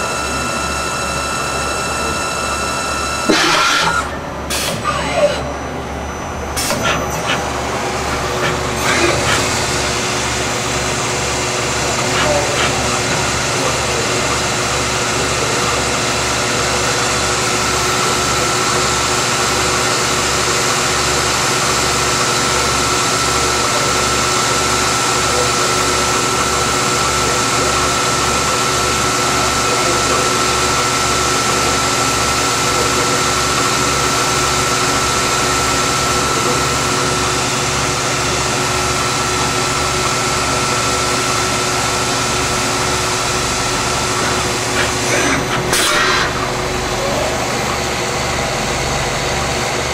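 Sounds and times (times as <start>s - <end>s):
high machine whine: 0.0s - 49.9s
lathe machine hum: 0.0s - 49.9s.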